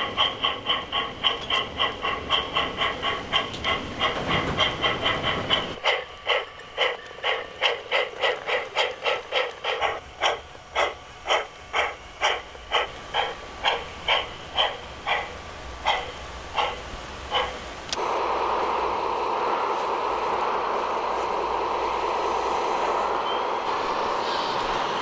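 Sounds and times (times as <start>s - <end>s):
steam locomotive chuffing: 0.0s - 25.0s.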